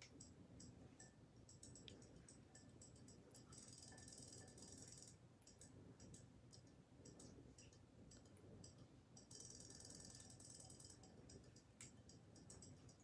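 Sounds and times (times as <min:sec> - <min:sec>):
toy fish rapid clicking: 0:00.0 - 0:13.0.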